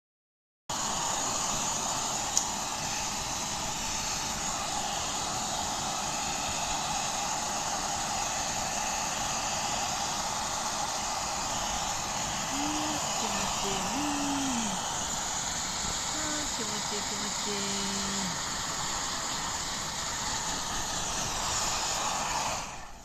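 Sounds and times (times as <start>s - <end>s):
hair dryer blowing: 0.7s - 23.0s.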